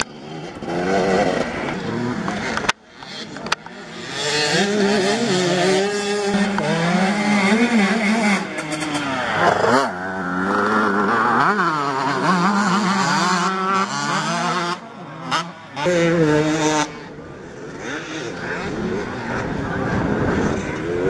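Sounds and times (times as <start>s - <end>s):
motocross bikes revving: 0.0s - 21.0s.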